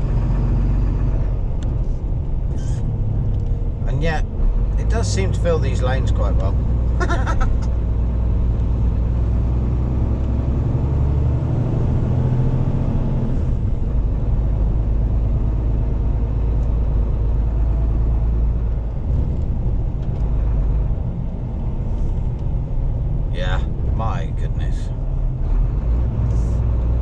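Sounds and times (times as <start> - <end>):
lorry diesel engine rumbling: 0.0 - 27.0.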